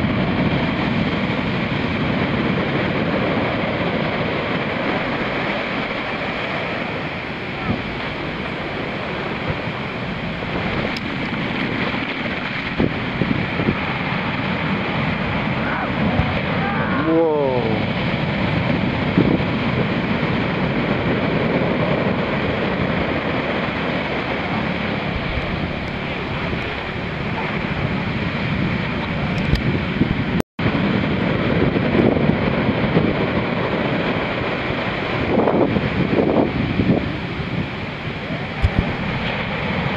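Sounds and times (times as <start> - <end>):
surf washing up sand: 0.0 - 39.9
waves breaking: 0.0 - 39.9
wind buffeting microphone: 0.0 - 39.9.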